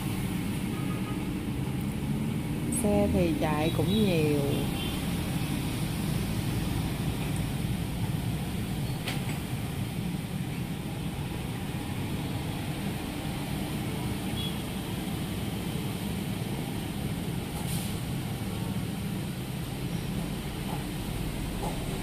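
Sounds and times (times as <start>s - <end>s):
street traffic in rain: 0.0s - 22.0s.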